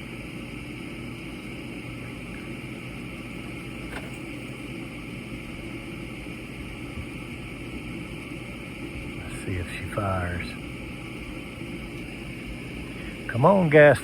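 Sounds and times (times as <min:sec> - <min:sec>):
furnace fan humming: 0:00.0 - 0:14.0.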